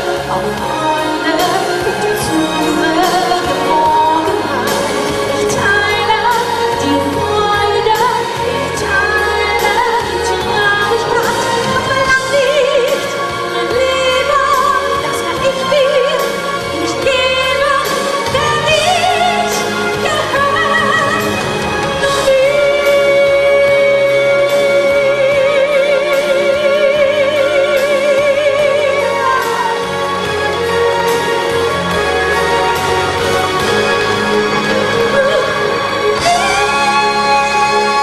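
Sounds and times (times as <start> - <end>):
musical accompaniment: 0.0 - 38.0
woman singing operatic pop: 0.0 - 38.0.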